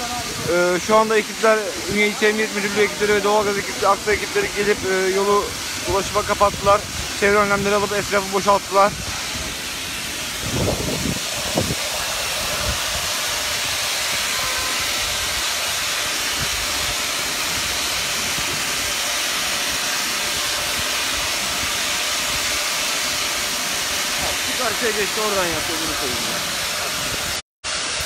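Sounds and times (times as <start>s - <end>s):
gas hissing from pipe: 0.0s - 28.0s.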